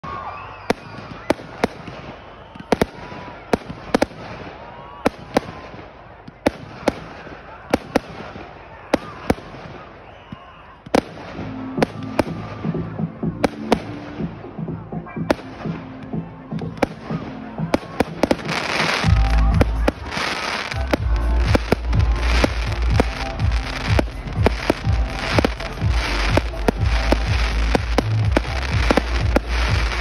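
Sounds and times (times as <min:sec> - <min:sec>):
fireworks bursting with sharp bangs: 0:00.0 - 0:30.0.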